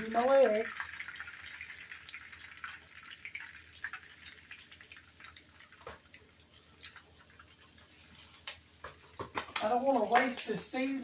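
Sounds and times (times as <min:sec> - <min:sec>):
hot oil crackling in skillet: 0:00.0 - 0:11.0.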